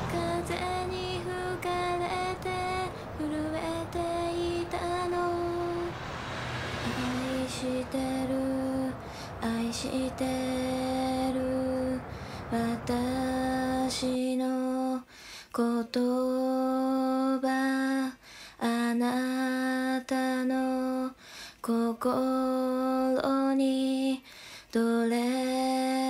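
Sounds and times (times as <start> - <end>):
woman singing unaccompanied: 0.0 - 6.0, 6.8 - 26.0.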